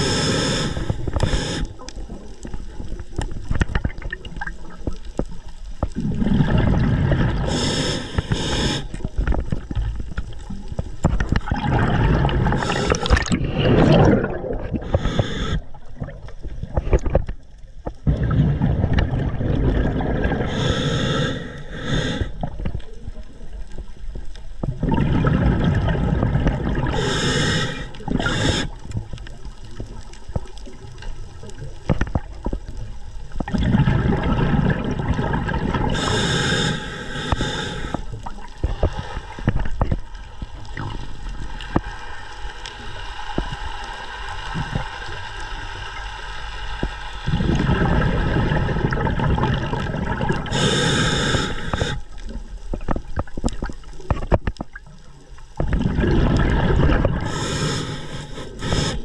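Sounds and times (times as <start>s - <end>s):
underwater bubbling and gurgling: 0.0s - 59.0s.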